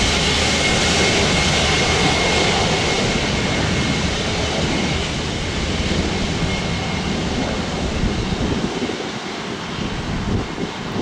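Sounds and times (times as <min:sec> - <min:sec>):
jet engines at idle: 0:00.0 - 0:11.0
wind on microphone: 0:00.0 - 0:11.0.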